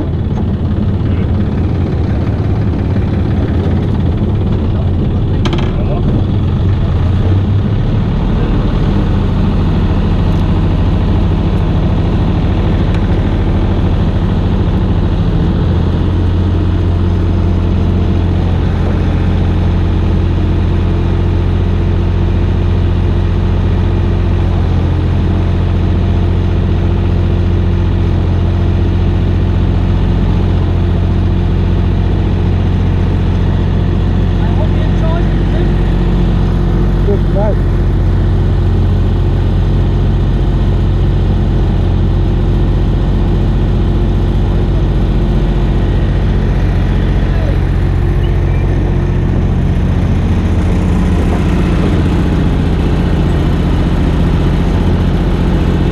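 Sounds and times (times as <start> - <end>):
engine running with low hum: 0.0 - 55.9.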